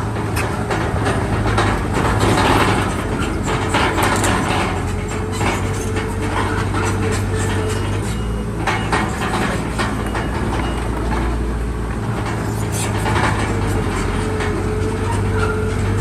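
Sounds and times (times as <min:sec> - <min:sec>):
diesel engine under load: 0:00.0 - 0:16.0
metallic clanking of tracks: 0:00.0 - 0:16.0.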